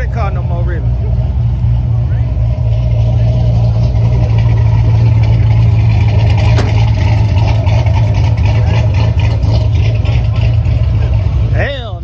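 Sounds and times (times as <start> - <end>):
another car running: 0.0 - 12.0
loud exhaust car idling: 0.0 - 12.0.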